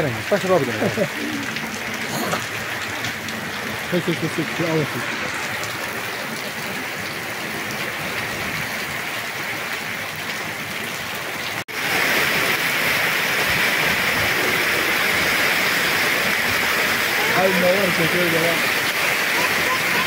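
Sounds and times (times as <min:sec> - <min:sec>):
heavy rain on pavement: 0:00.0 - 0:20.0.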